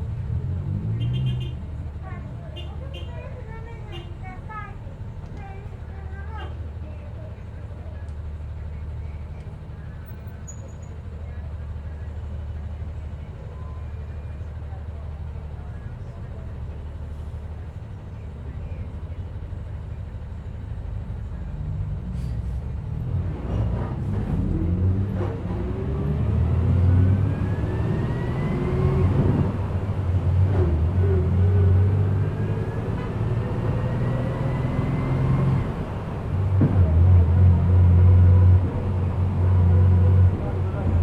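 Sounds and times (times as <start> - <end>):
bus engine rumble and whine: 0.0 - 41.0.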